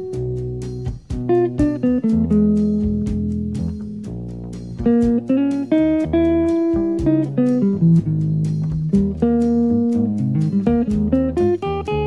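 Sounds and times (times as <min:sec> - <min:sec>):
bass line: 0:00.0 - 0:12.0
jazz melody line: 0:00.0 - 0:12.0
light cymbal taps: 0:00.6 - 0:05.4, 0:06.0 - 0:11.3.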